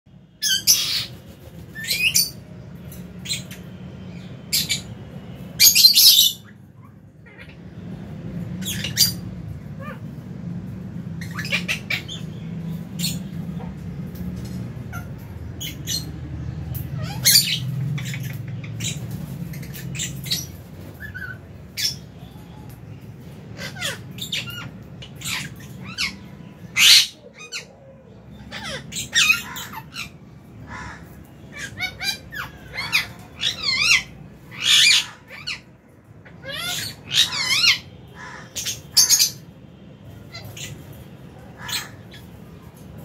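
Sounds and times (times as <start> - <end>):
lovebirds shrill calls: 0.4 - 5.0, 5.6 - 7.6, 8.6 - 10.0, 11.2 - 13.6, 14.8 - 39.5, 40.2 - 42.6.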